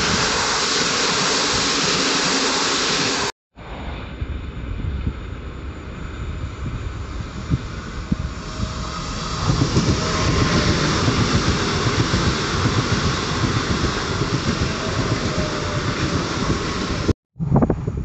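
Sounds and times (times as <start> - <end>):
train wheels rushing on rails: 0.0 - 3.3, 5.0 - 17.2.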